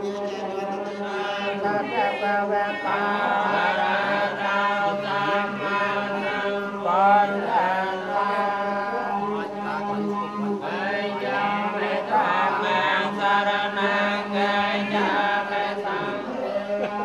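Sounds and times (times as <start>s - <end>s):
monks chanting: 0.0s - 17.0s.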